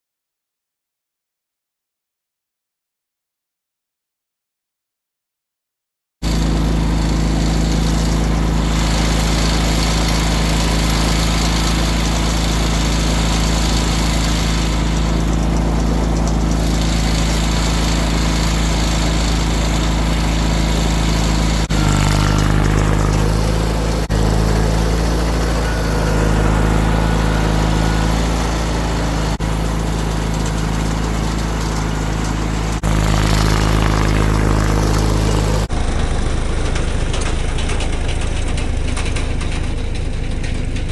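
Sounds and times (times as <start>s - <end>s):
garden tractor engine running: 6.2s - 40.9s.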